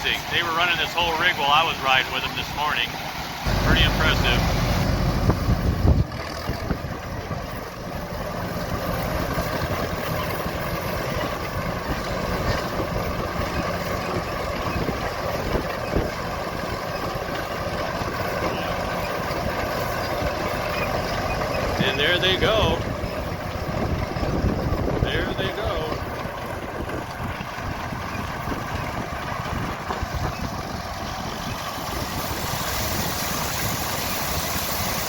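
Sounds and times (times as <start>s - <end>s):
combine engine running: 0.0s - 35.0s
wind buffeting microphone: 3.4s - 35.0s.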